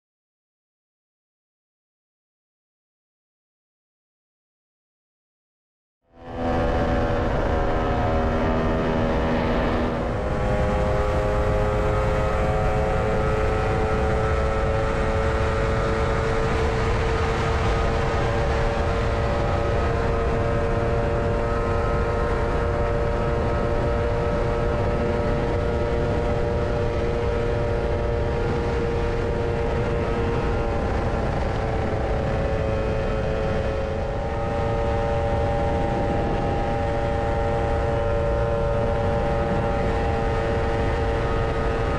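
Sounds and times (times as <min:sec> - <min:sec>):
scooter engine droning: 0:06.1 - 0:41.9
wind rush on microphone: 0:06.2 - 0:41.9.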